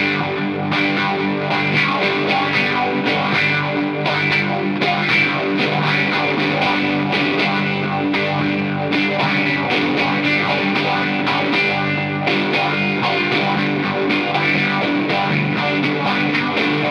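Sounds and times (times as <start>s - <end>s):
distorted electric guitar lead: 0.0s - 16.9s
rock band playing: 0.0s - 16.9s.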